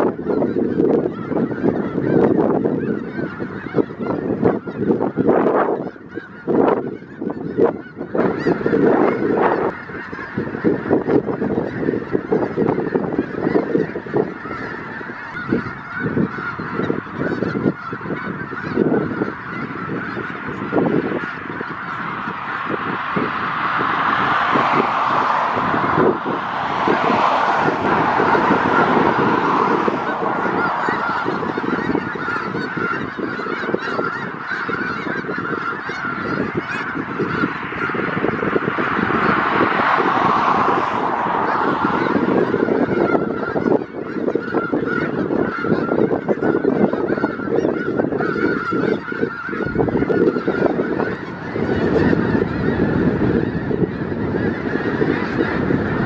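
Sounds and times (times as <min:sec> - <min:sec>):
flock of geese honking: 0:00.0 - 0:56.0.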